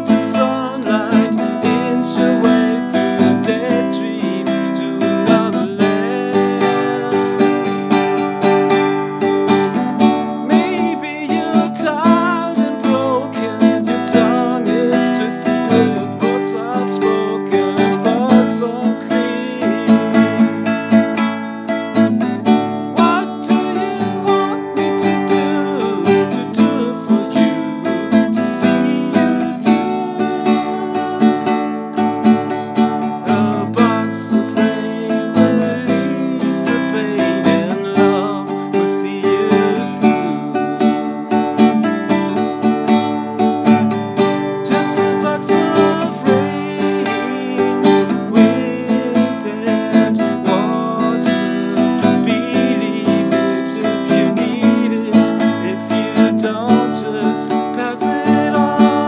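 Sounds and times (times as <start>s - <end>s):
classical guitar strumming: 0.0s - 59.0s
man singing: 0.0s - 59.0s.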